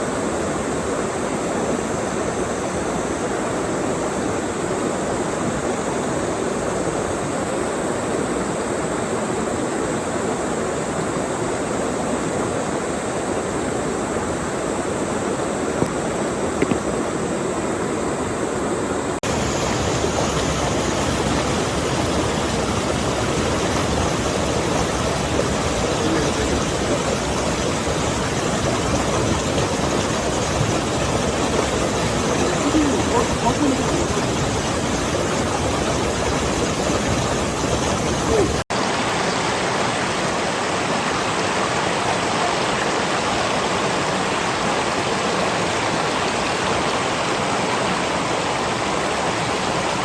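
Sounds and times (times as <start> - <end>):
stream rushing over rocks: 0.0 - 50.0.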